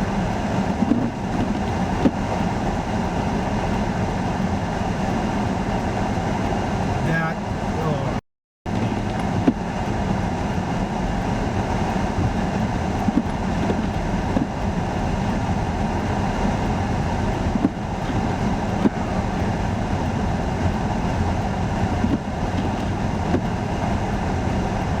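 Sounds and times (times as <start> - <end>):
blizzard wind on microphone: 0.0 - 25.0
idling highway traffic hum: 0.0 - 25.0.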